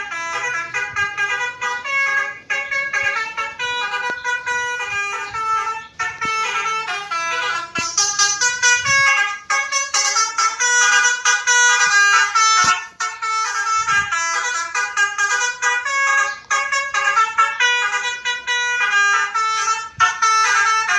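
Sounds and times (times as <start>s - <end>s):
low bumps: 0.0s - 18.5s
reedy horn melody: 0.0s - 20.9s.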